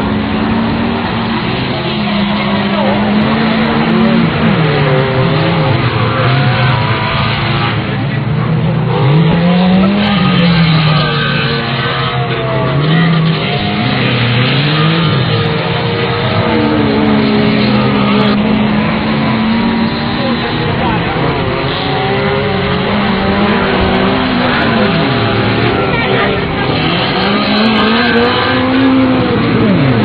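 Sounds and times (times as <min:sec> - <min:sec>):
car engines revving hard: 0:00.0 - 0:30.0
dense rough noise: 0:00.0 - 0:30.0.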